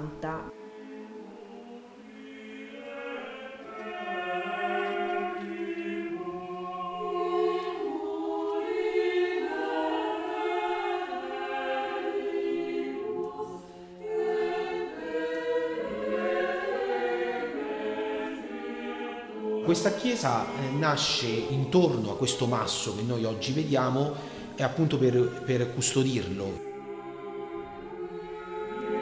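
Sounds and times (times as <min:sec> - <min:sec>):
choir singing held chords: 0:00.0 - 0:29.0.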